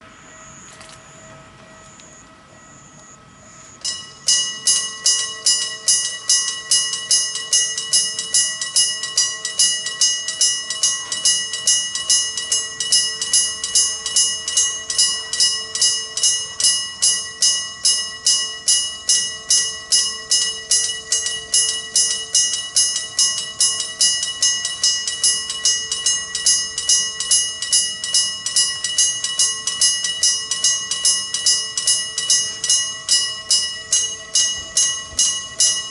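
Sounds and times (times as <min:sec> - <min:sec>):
level crossing bell ringing: 0:00.0 - 0:35.9.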